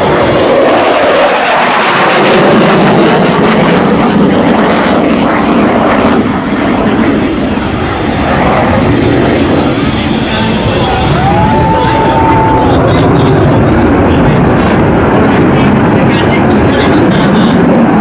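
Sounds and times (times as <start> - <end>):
fighter jet roaring: 0.0 - 18.0.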